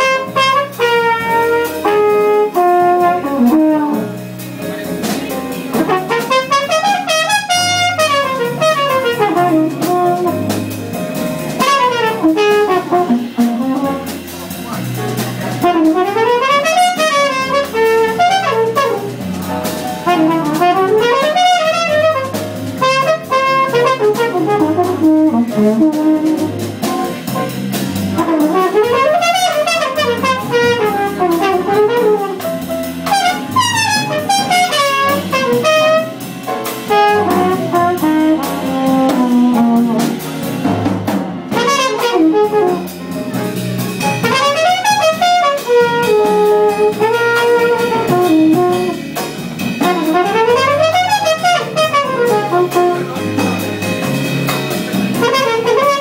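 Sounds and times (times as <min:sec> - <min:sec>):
trumpet solo: 0:00.0 - 0:04.2, 0:05.7 - 0:10.6, 0:11.5 - 0:14.4, 0:15.6 - 0:19.3, 0:20.0 - 0:26.6, 0:28.1 - 0:40.2, 0:41.5 - 0:43.0, 0:44.2 - 0:53.6, 0:54.8 - 0:56.0
drums: 0:00.0 - 0:56.0
piano: 0:00.0 - 0:56.0.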